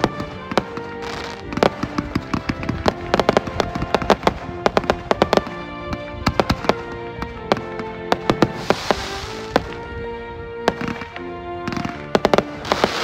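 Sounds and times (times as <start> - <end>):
background music: 0.0 - 13.0
fireworks bangs and crackles: 0.0 - 13.0.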